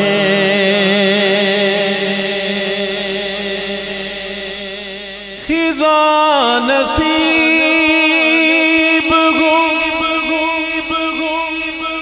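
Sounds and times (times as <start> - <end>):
chanted vocal drone: 0.0 - 12.0.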